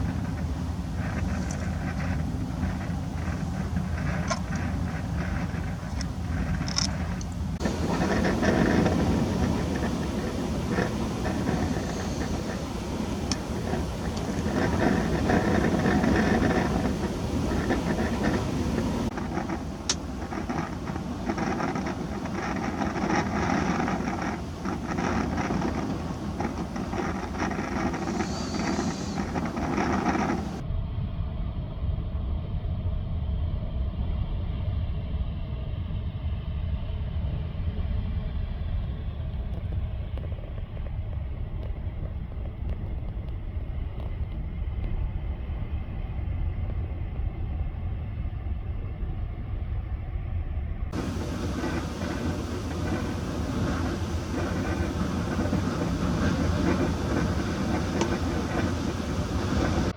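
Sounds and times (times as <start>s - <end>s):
wind hiss: 0.0s - 30.6s, 35.0s - 59.9s
storm wind gusts rumbling: 0.0s - 59.9s.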